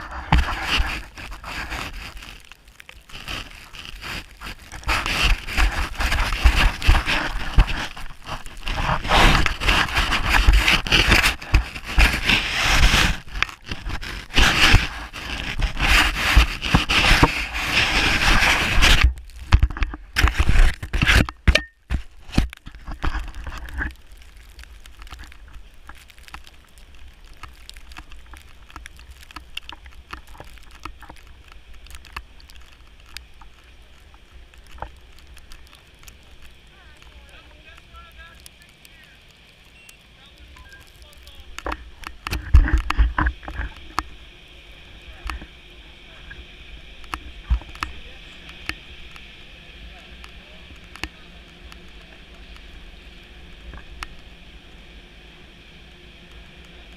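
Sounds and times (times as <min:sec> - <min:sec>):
faint hiss with small ticks: 0:00.0 - 0:56.9
snowboard scraping over snow: 0:00.0 - 0:56.9.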